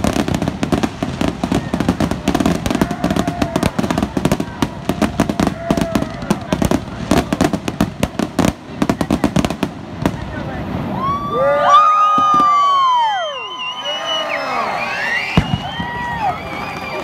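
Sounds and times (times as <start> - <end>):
fireworks popping and banging: 0.0 - 11.1, 12.0 - 13.1, 15.3 - 17.0.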